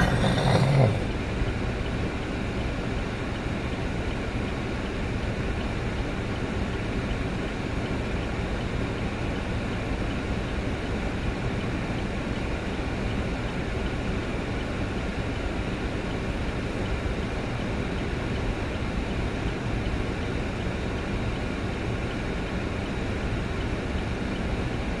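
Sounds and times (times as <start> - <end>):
road and engine noise in vehicle: 1.4 - 25.0.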